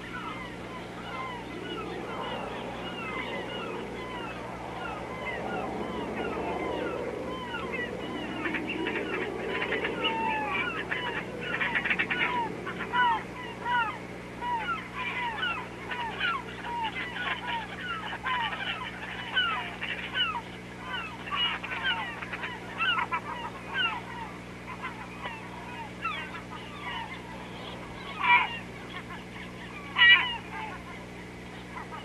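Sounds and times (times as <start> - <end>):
flock of birds calling: 0.0 - 32.0
steady low hum: 0.0 - 32.0.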